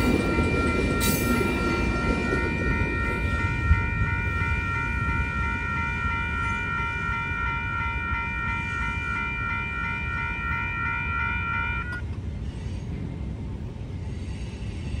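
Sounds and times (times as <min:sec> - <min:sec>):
railroad crossing bell ringing: 0:00.0 - 0:12.2.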